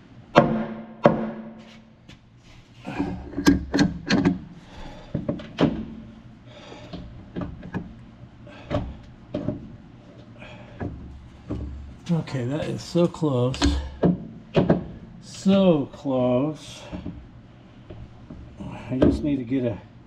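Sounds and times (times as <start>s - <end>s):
metal clunks and knocks: 0.3s - 2.2s, 2.9s - 15.8s, 16.7s - 19.4s.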